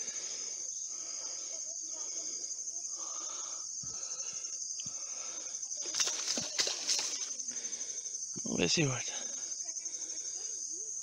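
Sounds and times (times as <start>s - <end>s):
insects shrill buzzing: 0.0s - 11.0s.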